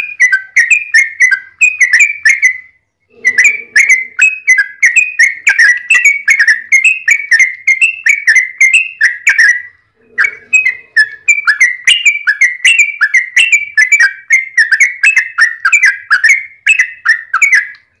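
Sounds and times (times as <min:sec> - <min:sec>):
bird chirping rapidly: 0:00.0 - 0:18.0.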